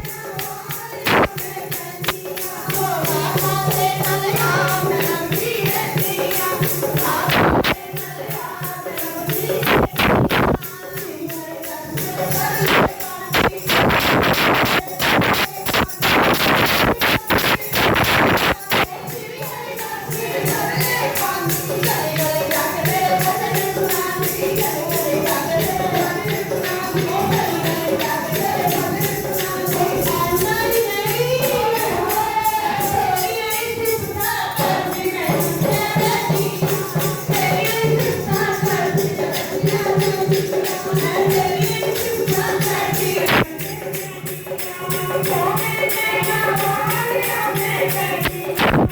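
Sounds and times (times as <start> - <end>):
jingling hand percussion: 0.0 - 48.9
voices singing a chant: 0.0 - 48.9.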